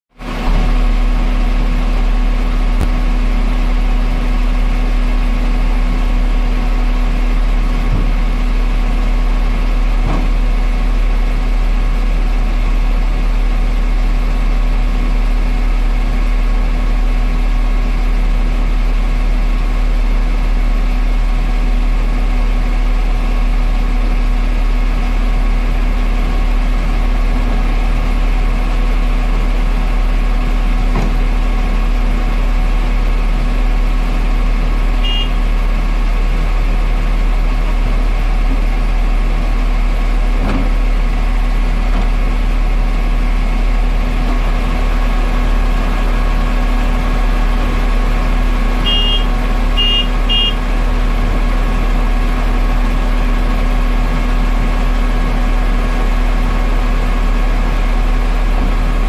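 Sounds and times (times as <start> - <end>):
heavy engine humming steadily: 0.1 - 59.0.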